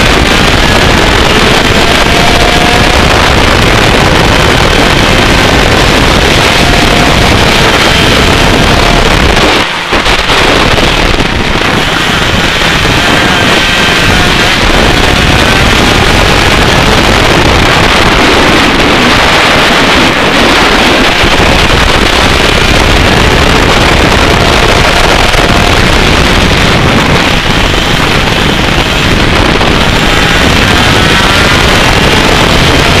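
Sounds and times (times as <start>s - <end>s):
kart engine running hard: 0.0s - 33.0s
wind buffeting microphone: 0.0s - 33.0s.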